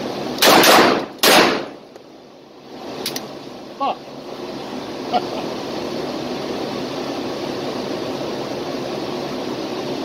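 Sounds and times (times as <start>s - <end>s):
ventilation air rushing: 0.0s - 10.0s.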